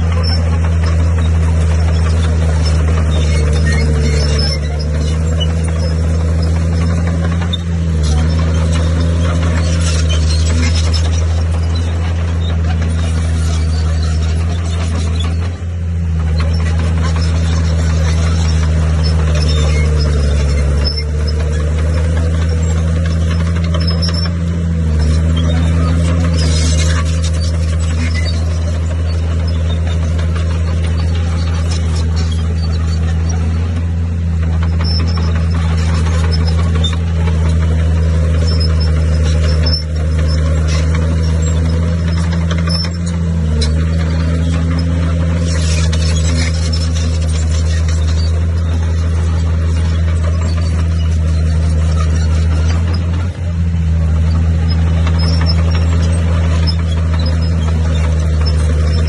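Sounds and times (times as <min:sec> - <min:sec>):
bulldozer diesel engine: 0:00.0 - 0:59.0
short high squeaks: 0:00.0 - 0:59.0.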